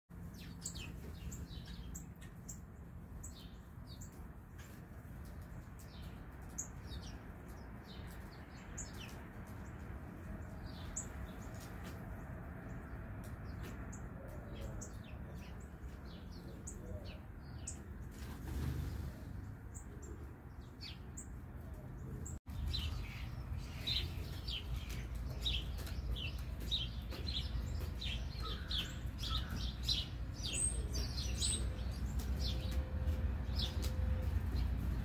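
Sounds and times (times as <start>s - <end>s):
songbirds chirping: 0.1s - 35.0s.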